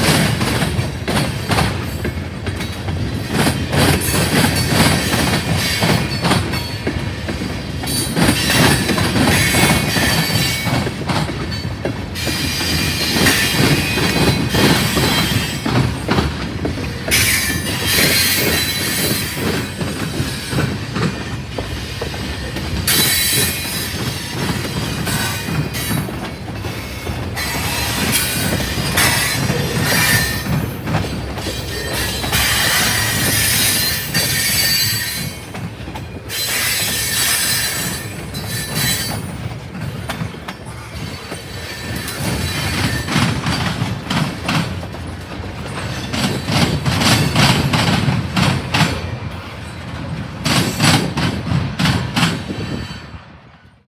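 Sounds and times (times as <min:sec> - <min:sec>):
train wheels squealing and clattering: 0:00.0 - 0:53.8.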